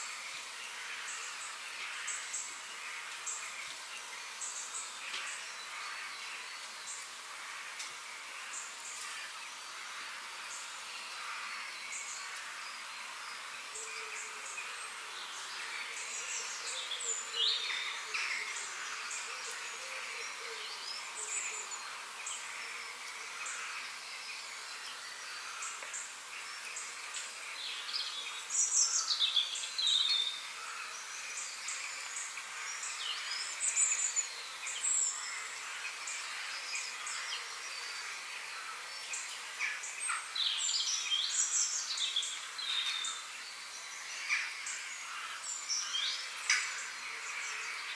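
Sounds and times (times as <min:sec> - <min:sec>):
songbirds chirping and trilling: 0:00.0 - 0:47.9
steady high hiss: 0:00.0 - 0:47.9.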